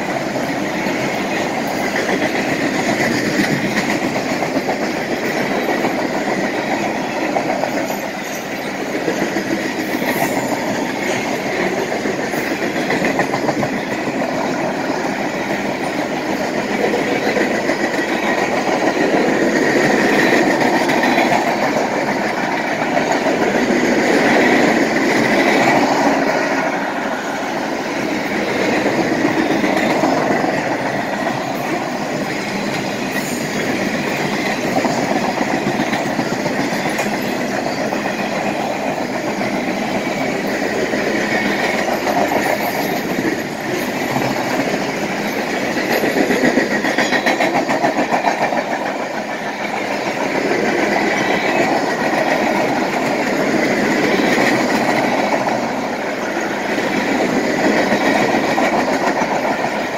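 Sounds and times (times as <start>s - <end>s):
freight train rolling past: 0.0s - 59.9s
steel wheels clattering over rail joints: 0.0s - 59.9s.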